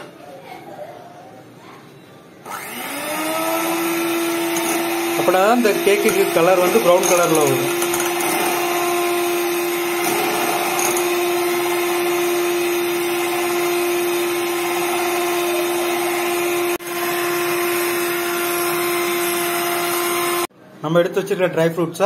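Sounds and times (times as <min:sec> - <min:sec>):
electric hand mixer whisking batter: 0:02.5 - 0:20.5.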